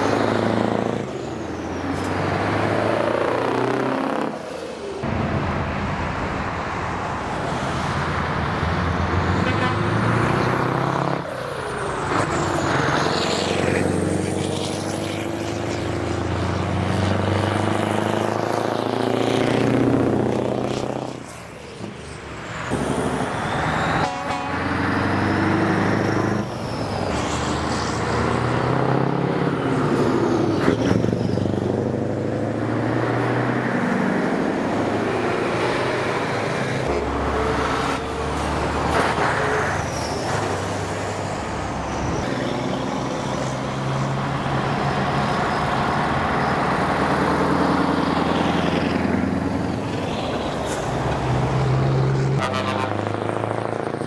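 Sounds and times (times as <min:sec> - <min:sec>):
diesel trucks driving past: 0:00.0 - 0:54.0.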